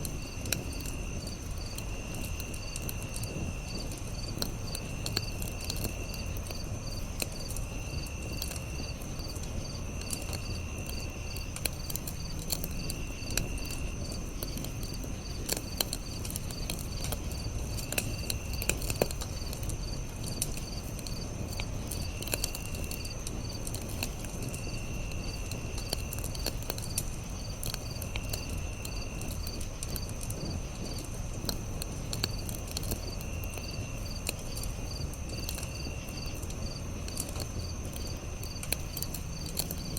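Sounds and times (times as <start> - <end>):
campfire crackling: 0.0 - 39.9
insect trills: 0.0 - 39.9
insects chirping: 0.0 - 39.9
sharp pops of fire: 0.0 - 39.9.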